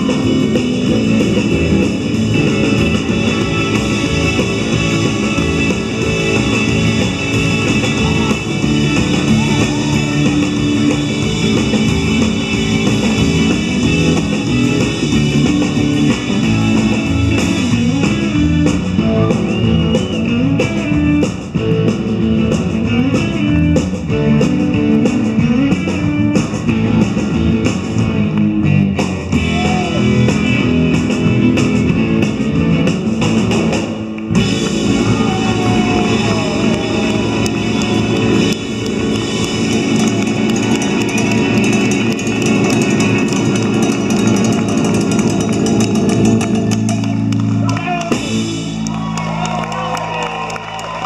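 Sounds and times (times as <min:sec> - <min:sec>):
bass guitar: 0:00.0 - 0:51.0
drum kit: 0:00.0 - 0:51.0
electric guitars: 0:00.0 - 0:51.0.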